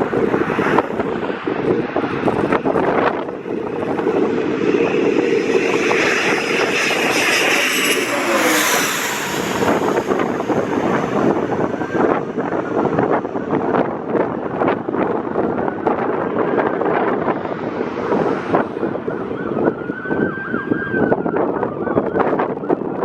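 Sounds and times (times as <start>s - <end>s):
jet engines whining: 0.0s - 20.2s
wind buffeting microphone: 0.0s - 23.0s.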